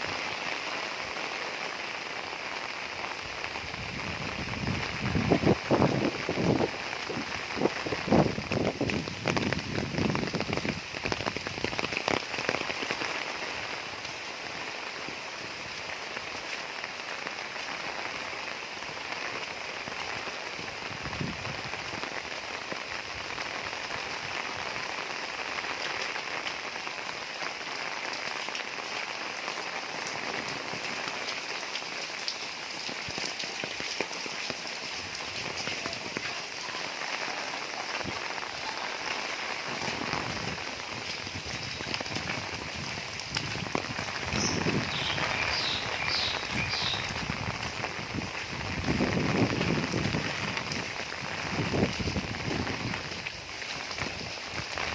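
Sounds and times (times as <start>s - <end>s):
heavy rain on a roof: 0.0s - 54.9s.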